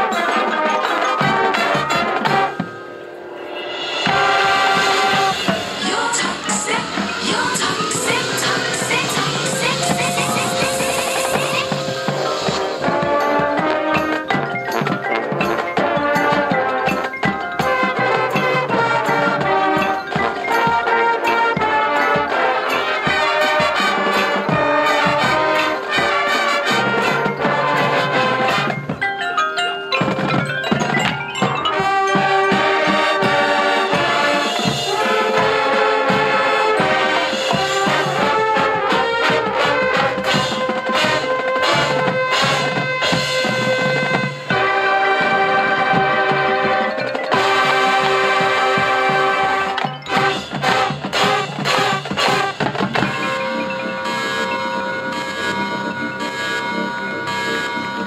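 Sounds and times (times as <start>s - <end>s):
brass: 0.0s - 58.0s
drum and percussion hits: 0.0s - 58.0s
glockenspiel and marimba: 0.0s - 58.0s
marching band playing: 0.0s - 58.0s.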